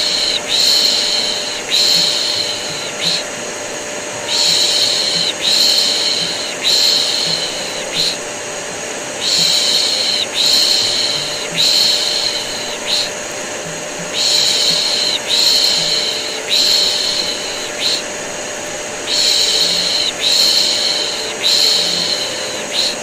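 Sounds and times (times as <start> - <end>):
person shushing: 0.0 - 3.4, 4.1 - 8.3, 9.2 - 18.2, 19.0 - 23.0
vacuum cleaner running: 0.0 - 23.0.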